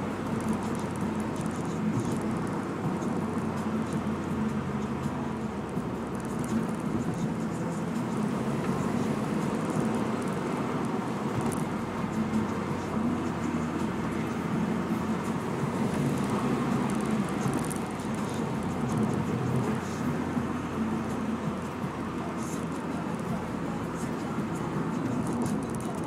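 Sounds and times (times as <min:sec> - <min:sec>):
car engine under load: 0:00.0 - 0:26.0
road and tyre noise: 0:00.0 - 0:26.0.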